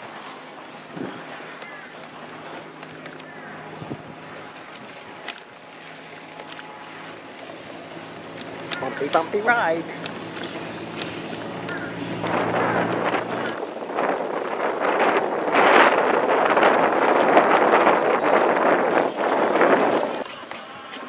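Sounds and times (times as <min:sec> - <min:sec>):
bicycle tyres on wooden planks: 0:00.0 - 0:21.0.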